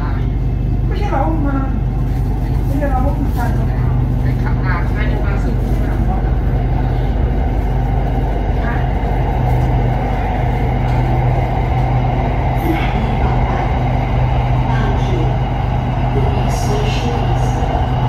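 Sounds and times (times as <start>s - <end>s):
constant low hum: 0.0s - 18.0s
train rumble inside carriage: 0.0s - 18.0s.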